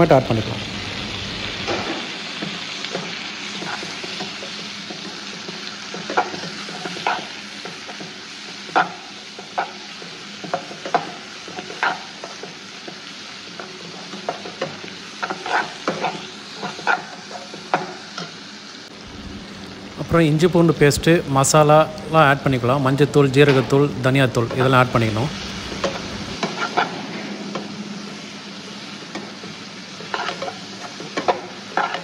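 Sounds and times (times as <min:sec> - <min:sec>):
vegetables sizzling in pan: 0:00.0 - 0:32.0.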